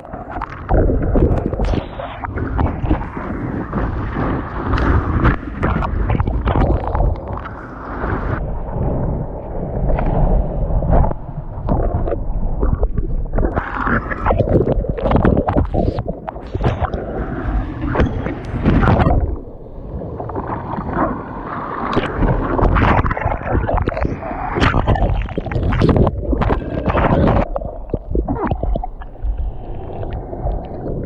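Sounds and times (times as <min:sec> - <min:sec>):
water splashing and gurgling: 0:00.0 - 0:31.0
wind buffeting: 0:00.0 - 0:31.0.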